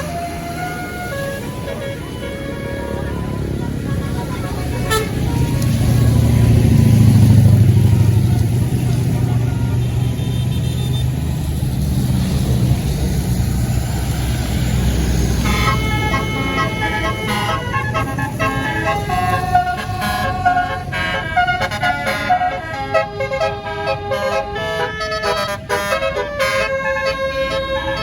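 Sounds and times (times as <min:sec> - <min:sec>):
multi-tone musical horn: 0:00.0 - 0:10.9, 0:15.2 - 0:28.0
bus engine passing: 0:00.0 - 0:28.0.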